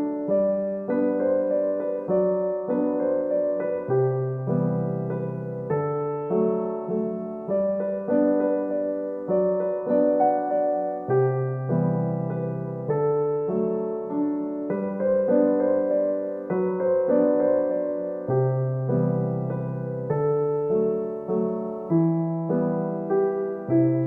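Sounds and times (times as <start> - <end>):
gentle piano chords: 0.0 - 24.0.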